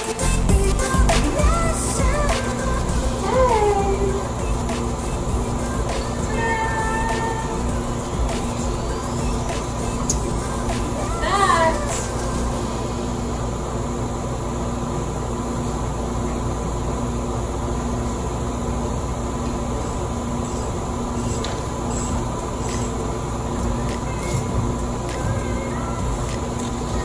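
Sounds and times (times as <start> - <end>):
constant tone: 0.0 - 27.0
workshop machinery hum and hiss: 0.0 - 27.0.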